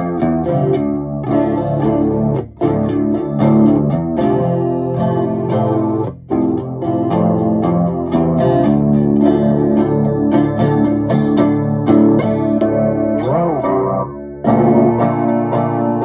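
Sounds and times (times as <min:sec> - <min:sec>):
clean electric guitar strumming chords: 0:00.0 - 0:16.0.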